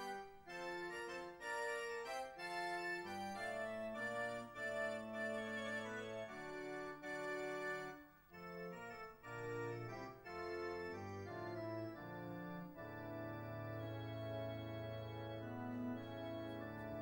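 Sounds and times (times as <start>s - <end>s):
wind orchestra playing chords: 0.0s - 17.0s.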